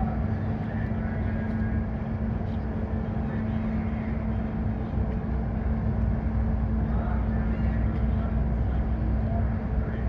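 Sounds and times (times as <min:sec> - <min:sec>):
ship engines droning: 0:00.0 - 0:10.0.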